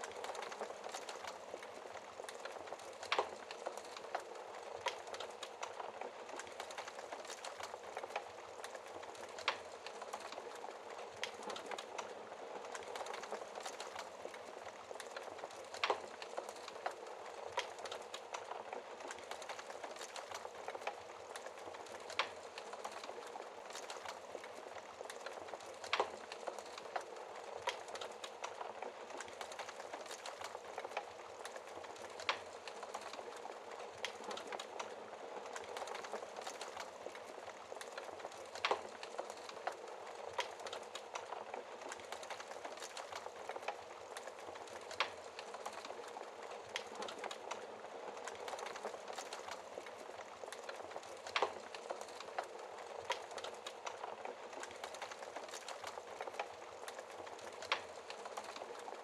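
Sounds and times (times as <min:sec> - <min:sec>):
loud sharp crack of fire: 0:00.0 - 0:59.0
wood fire crackling: 0:00.0 - 0:59.0.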